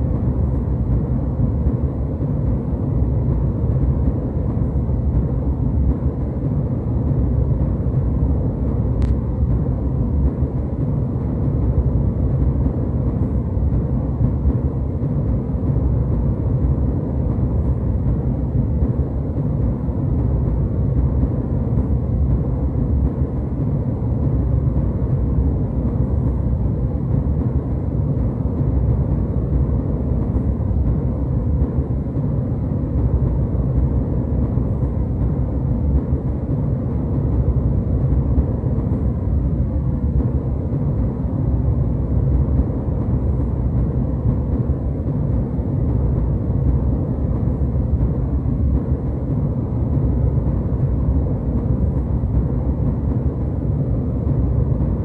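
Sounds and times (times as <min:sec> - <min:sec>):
jet cabin engine drone: 0:00.0 - 0:55.0.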